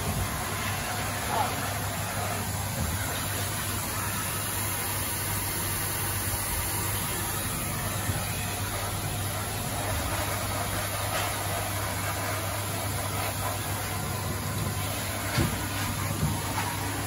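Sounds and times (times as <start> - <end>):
dryer blower rushing air: 0.0 - 17.0.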